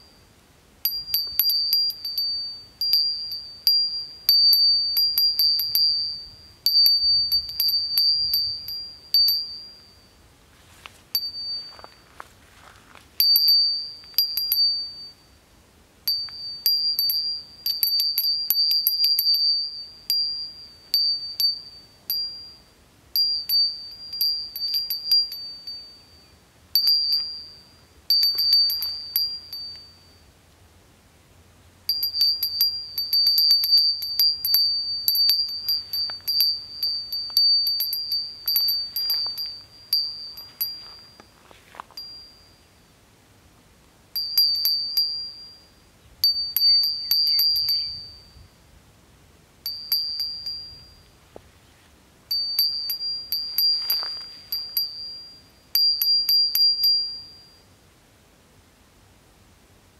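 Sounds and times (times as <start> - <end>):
small metal bell ringing: 0.0 - 10.2, 11.1 - 15.3, 16.1 - 30.3, 31.9 - 42.8, 44.2 - 48.6, 49.6 - 51.2, 52.3 - 57.7.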